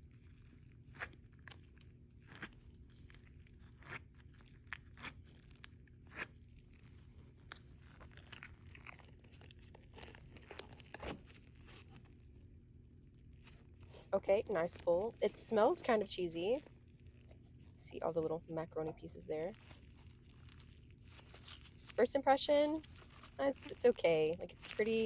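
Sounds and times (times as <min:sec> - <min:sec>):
slime clicking and crackling: 0:00.0 - 0:15.8, 0:19.5 - 0:25.0.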